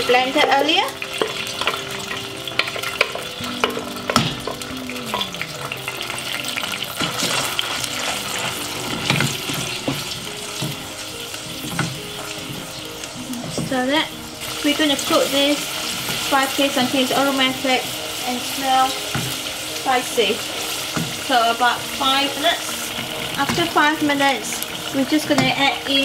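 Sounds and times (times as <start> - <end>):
spice paste sizzling in oil: 0.0 - 26.0.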